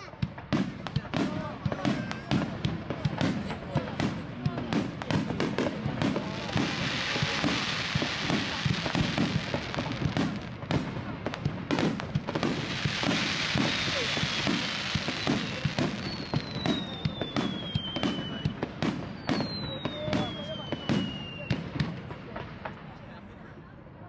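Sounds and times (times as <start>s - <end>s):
fireworks bursting with echoing bangs: 0.0s - 23.2s
crackling hiss of fireworks: 0.0s - 24.0s.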